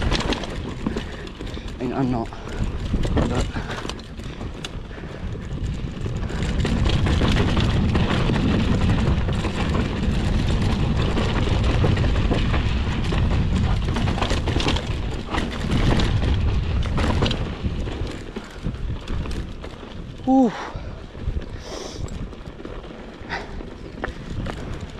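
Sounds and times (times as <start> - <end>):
bike clicks and rattles: 0.0 - 24.9
wind and tyre noise: 0.0 - 24.9.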